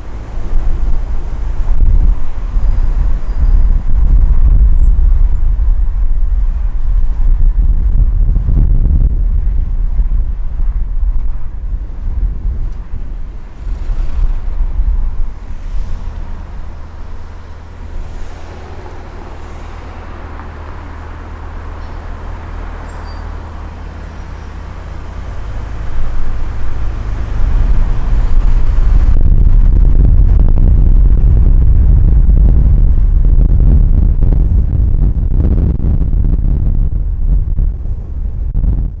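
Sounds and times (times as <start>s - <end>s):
car engine: 0.0s - 39.0s
tyres rumbling: 0.0s - 39.0s
wind noise: 0.0s - 39.0s.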